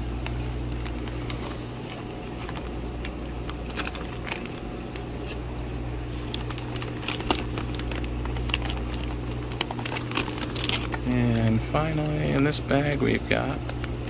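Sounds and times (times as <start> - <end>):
steady low hum: 0.0 - 14.0
plastic bag crinkling: 0.1 - 14.0.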